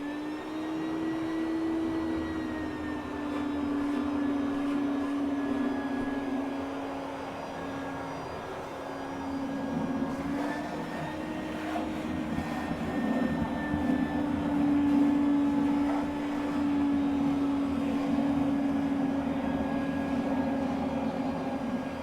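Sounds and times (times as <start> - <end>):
wet vac motor humming: 0.0 - 22.0.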